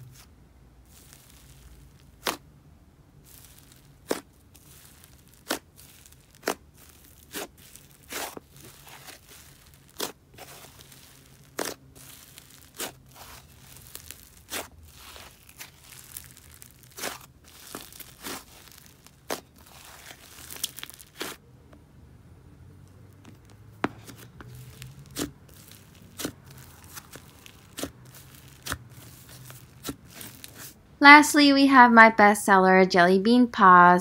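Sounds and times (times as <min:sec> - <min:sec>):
slime crackling: 0:00.0 - 0:02.5, 0:03.2 - 0:21.4, 0:23.0 - 0:30.8.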